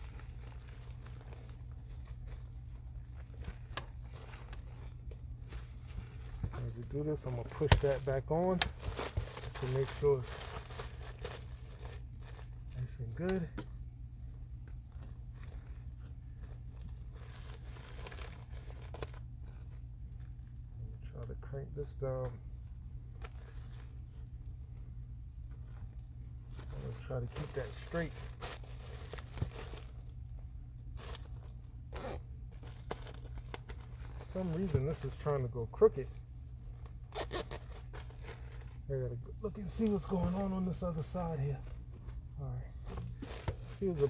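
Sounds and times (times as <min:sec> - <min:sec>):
flexible duct rustling and tapping: 0:00.0 - 0:21.3, 0:22.0 - 0:44.0
steady low hum: 0:00.0 - 0:44.0.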